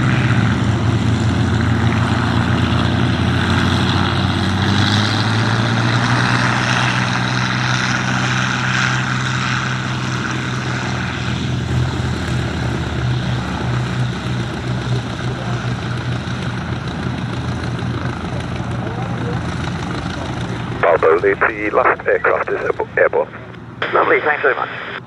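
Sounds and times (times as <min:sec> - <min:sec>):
propeller aircraft engine drone: 0:00.0 - 0:25.0.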